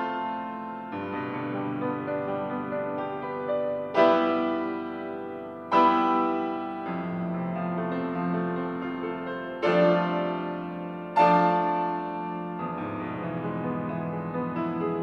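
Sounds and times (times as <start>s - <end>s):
grand piano: 0.0s - 15.0s.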